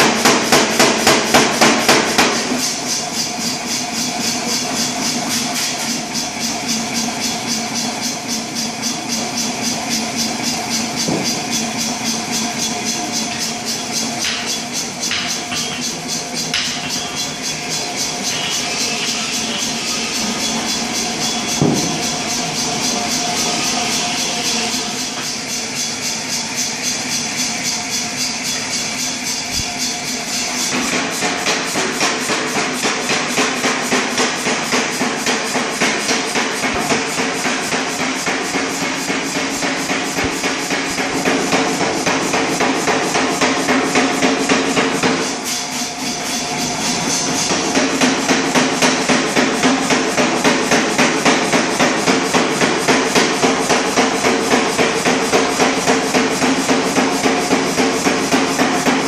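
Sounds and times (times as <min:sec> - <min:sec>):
air hammer striking metal: 0:00.0 - 0:59.0.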